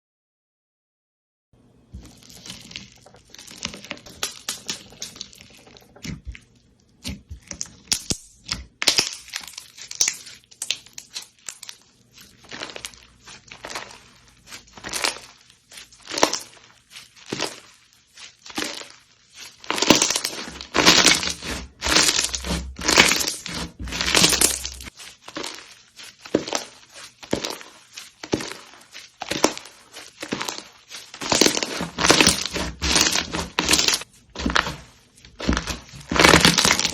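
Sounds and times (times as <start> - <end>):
slime crackling and popping: 2.0 - 36.9.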